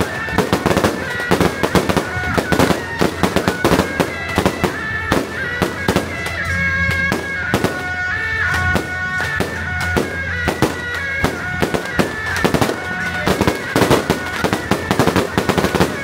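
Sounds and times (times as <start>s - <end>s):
firecrackers crackling: 0.0s - 16.0s
melody of held notes: 0.0s - 16.0s.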